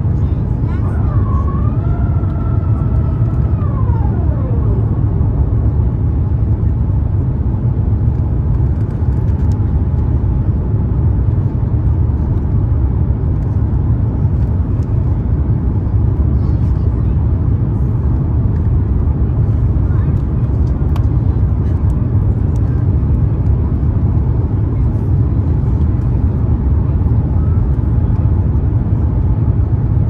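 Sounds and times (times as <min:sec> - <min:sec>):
aircraft engine and airflow rumble: 0:00.0 - 0:30.0.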